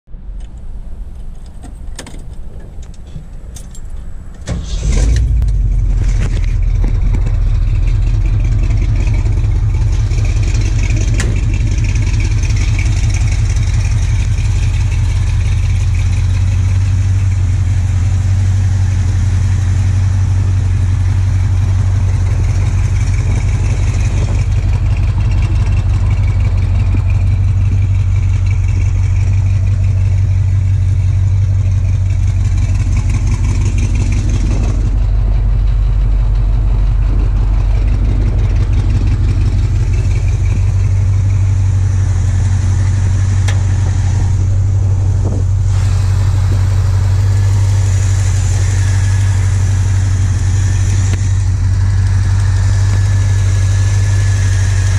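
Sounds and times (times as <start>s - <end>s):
engine starting and idling: 1.2s - 54.9s.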